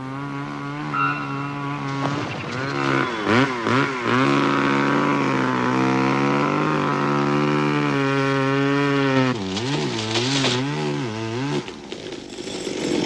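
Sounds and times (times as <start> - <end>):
chainsaw running at high revs: 0.0 - 13.0.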